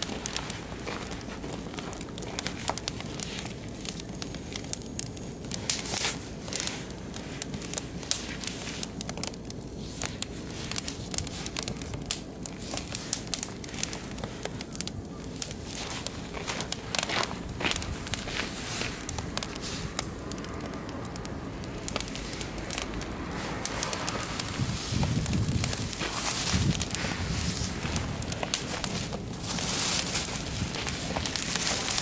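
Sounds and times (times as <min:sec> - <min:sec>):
logs crackling and popping: 0:00.0 - 0:32.0
low fire hiss: 0:00.0 - 0:32.0.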